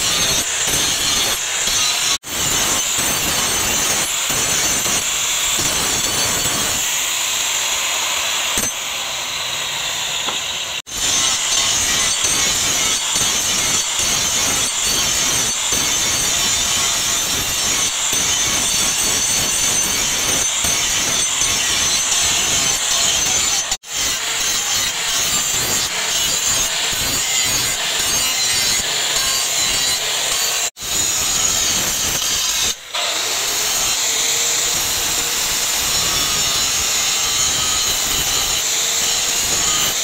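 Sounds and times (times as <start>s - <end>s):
angle grinder grinding metal: 0.0s - 40.0s.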